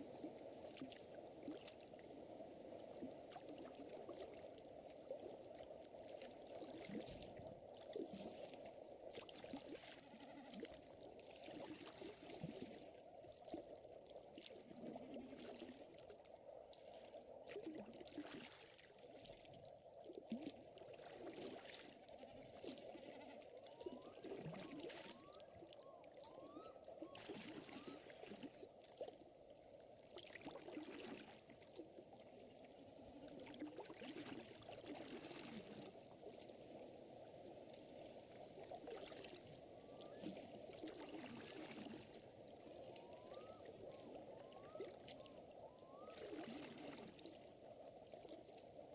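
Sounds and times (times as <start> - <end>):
water lapping and trickling: 0.0 - 48.9.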